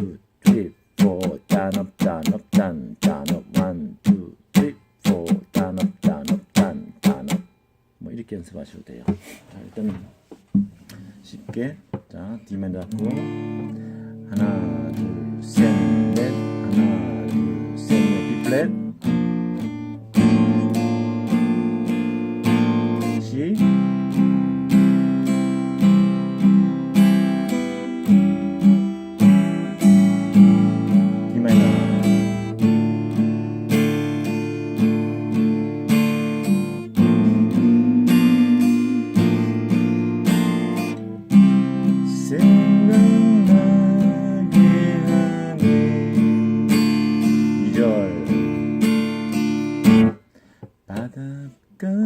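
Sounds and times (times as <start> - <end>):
acoustic guitar strumming: 0.0 - 7.9, 9.0 - 51.2.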